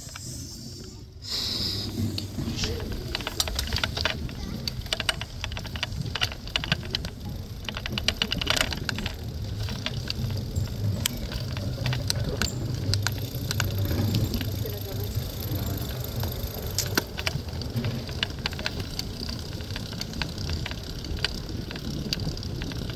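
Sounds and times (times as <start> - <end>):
bicycle rattling: 0.0 - 22.9.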